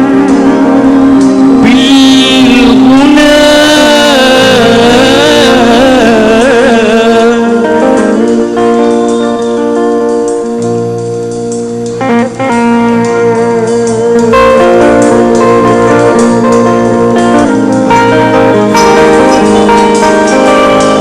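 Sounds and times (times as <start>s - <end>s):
guitar: 0.0s - 21.0s
live band playing: 0.0s - 21.0s.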